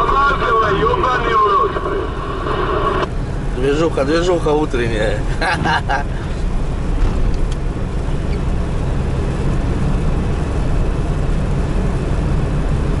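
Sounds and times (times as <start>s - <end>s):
van engine and road noise: 0.0s - 13.0s.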